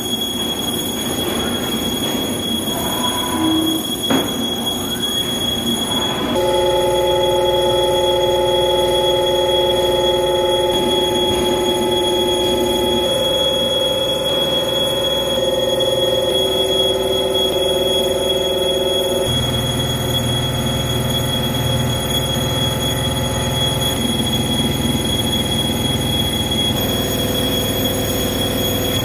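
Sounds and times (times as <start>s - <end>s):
continuous high-pitched beep: 0.0s - 29.0s
milling cutter squealing on steel: 0.0s - 29.0s.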